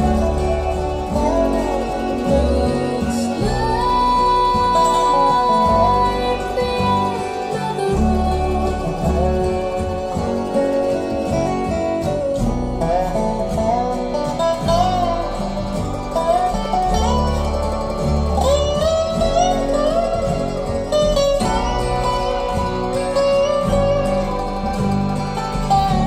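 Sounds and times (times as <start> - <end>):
acoustic bluegrass music: 0.0 - 26.0.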